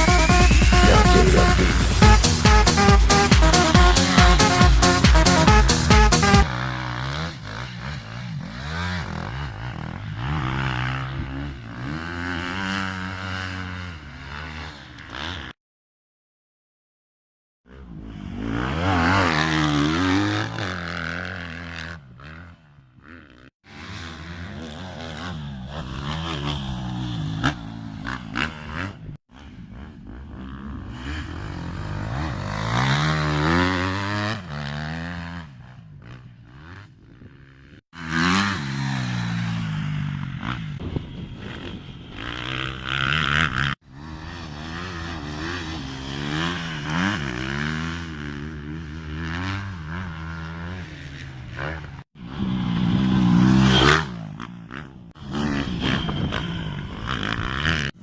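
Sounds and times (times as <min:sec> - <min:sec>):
motorcycle engines revving: 0:00.0 - 0:15.6, 0:17.7 - 0:58.0.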